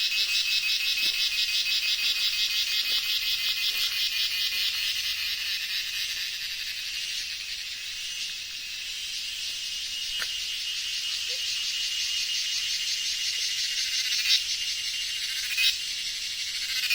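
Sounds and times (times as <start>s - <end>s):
chorus of forest animals calling: 0.0s - 16.9s.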